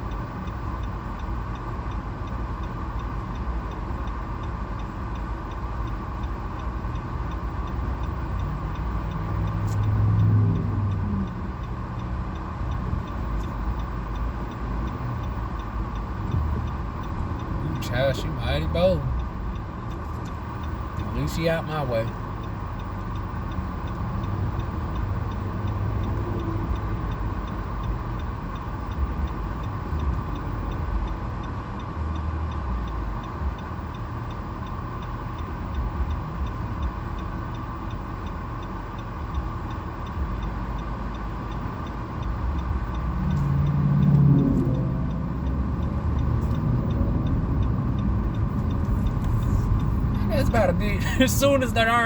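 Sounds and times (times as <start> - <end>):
car engine and road hum: 0.0 - 52.0.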